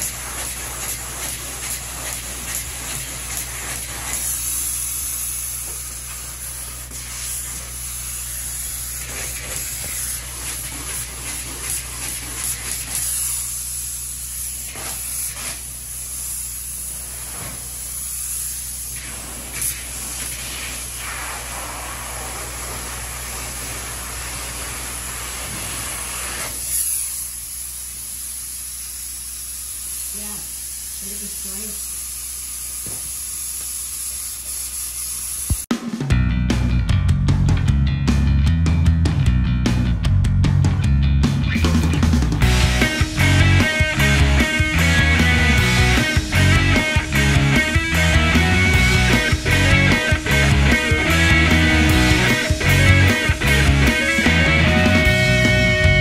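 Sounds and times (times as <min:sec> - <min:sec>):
spray foam hissing: 0:00.0 - 0:35.7, 0:42.5 - 0:55.3.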